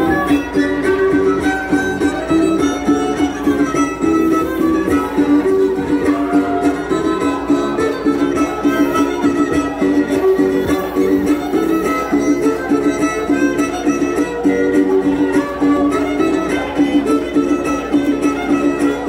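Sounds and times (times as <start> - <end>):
lively traditional dance music: 0.0 - 19.0.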